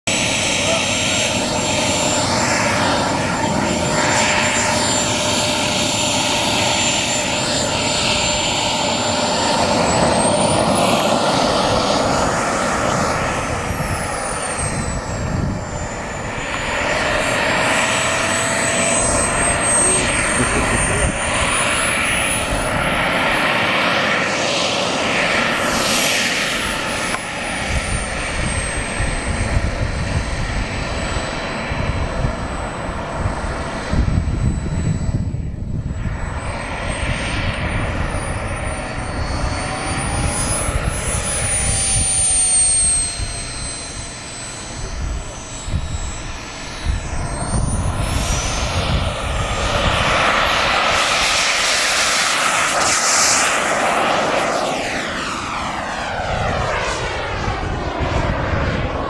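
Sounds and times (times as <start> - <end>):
model jet turbine whining: 0.1 - 59.0.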